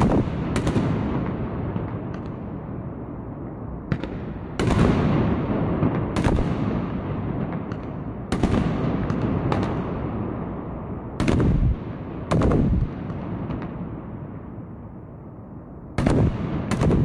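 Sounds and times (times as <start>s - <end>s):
fireworks bangs: 0.0s - 14.5s, 16.0s - 17.0s
rumble of fireworks bursts: 0.0s - 17.0s.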